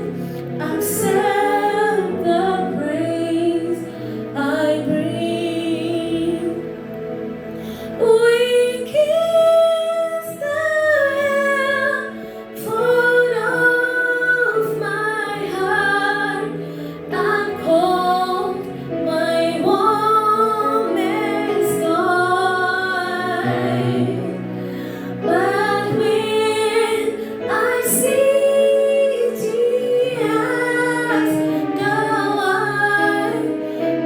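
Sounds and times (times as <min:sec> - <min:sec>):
woman singing a hymn: 0:00.0 - 0:06.7, 0:08.0 - 0:24.5, 0:25.2 - 0:34.0.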